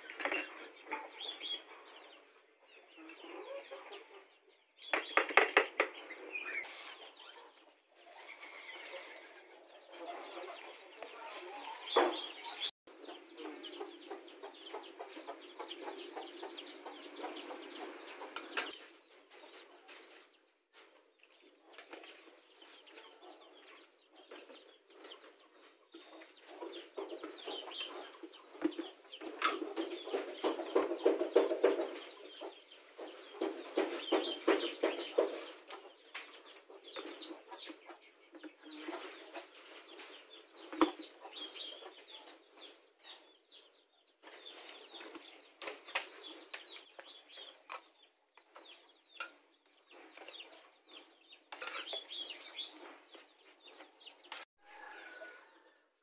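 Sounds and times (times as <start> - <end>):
chickens clucking: 0.0 - 55.7.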